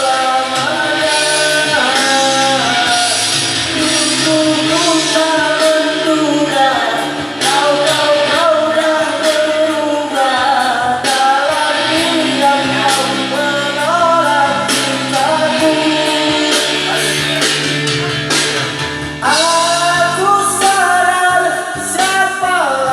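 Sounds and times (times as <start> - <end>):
song with sung melody and beat: 0.0 - 22.9.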